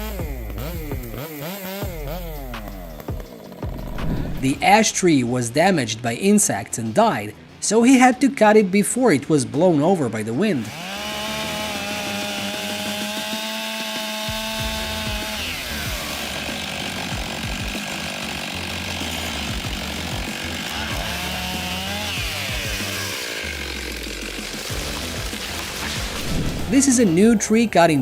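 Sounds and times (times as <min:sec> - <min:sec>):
chainsaw cutting wood: 0:00.0 - 0:05.3, 0:10.0 - 0:28.0.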